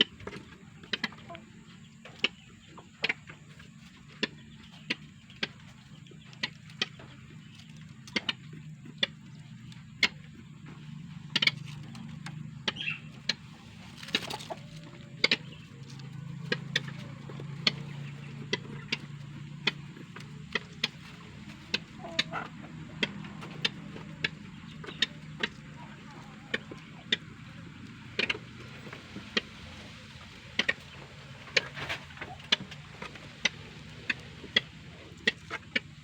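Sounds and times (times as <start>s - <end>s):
low steady hum: 0.0s - 36.0s
bird clicking ticks: 4.0s - 29.5s, 30.6s - 36.0s.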